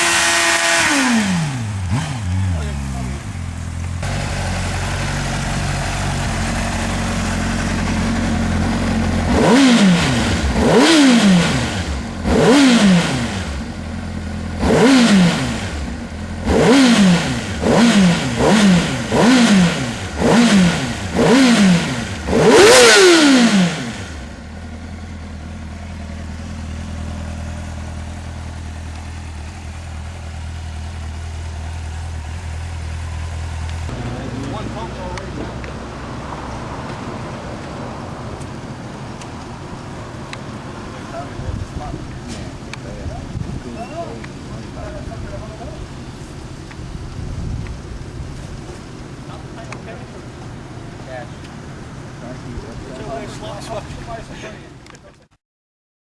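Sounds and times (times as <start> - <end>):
motorcycle engine idling and revving: 0.0 - 55.3.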